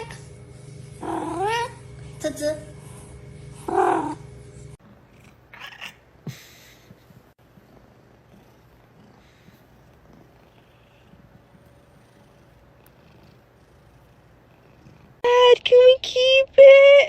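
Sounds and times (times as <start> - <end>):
cat purring: 0.0 - 6.3, 7.4 - 15.2.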